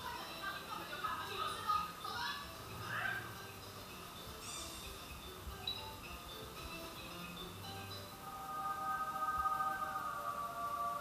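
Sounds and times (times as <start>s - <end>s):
faint background music: 0.0s - 11.0s.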